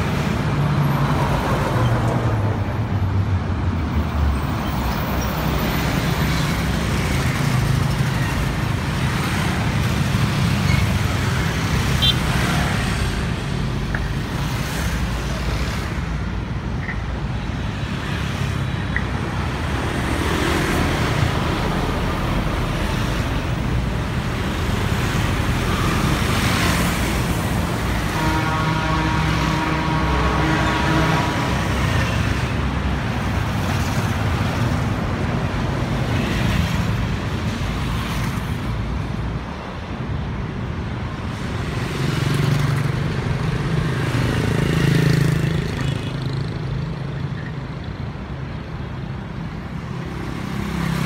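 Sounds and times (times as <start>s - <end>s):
traffic passing: 0.0s - 51.0s.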